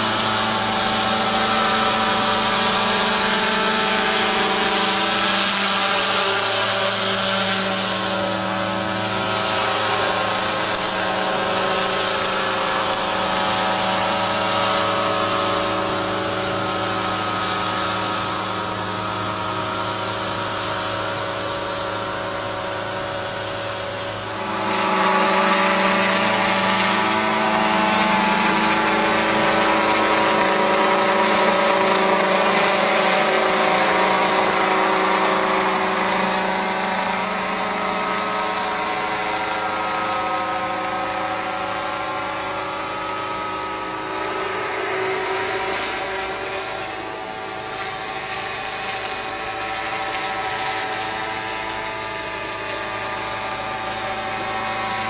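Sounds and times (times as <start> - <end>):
helicopter running: 0.0 - 55.0.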